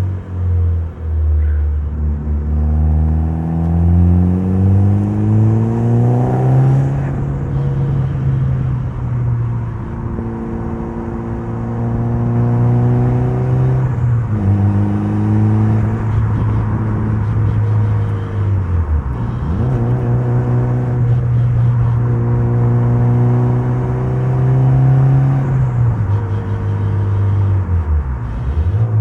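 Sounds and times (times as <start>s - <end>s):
turbocharged car engine accelerating: 0.0s - 29.0s.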